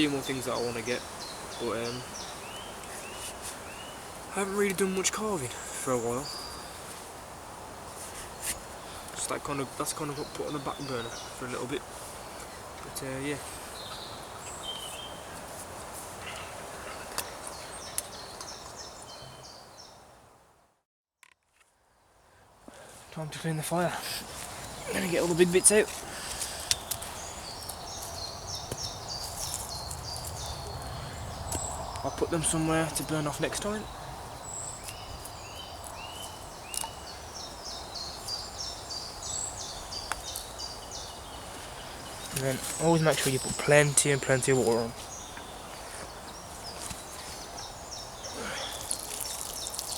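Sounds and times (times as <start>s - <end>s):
steady background hiss: 0.0s - 19.8s, 22.3s - 49.9s
small birds chirping: 0.0s - 20.1s, 22.8s - 49.9s
songbird singing: 0.0s - 20.4s, 22.7s - 49.9s.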